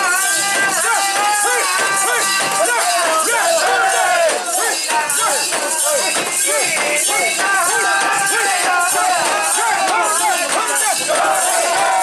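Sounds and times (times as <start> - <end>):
crowd chanting in unison: 0.0 - 12.0
metallic jingling and rattling: 0.0 - 12.0.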